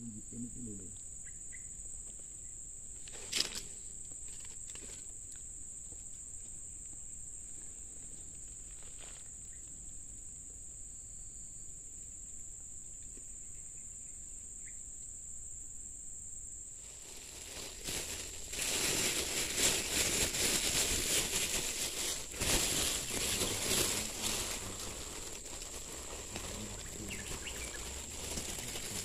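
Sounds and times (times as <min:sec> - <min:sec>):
high-pitched insect call: 0:00.0 - 0:29.0.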